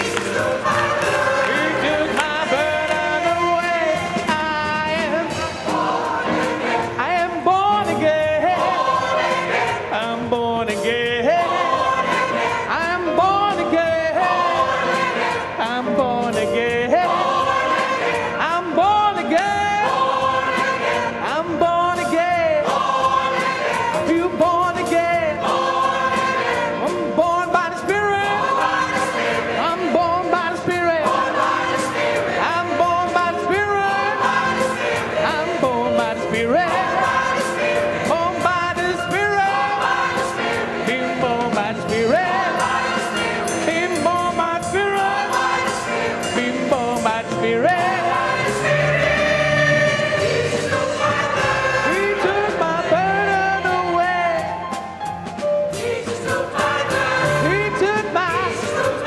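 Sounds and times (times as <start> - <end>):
choir singing gospel: 0.0 - 59.0
drums: 0.0 - 59.0
keyboard: 0.0 - 59.0.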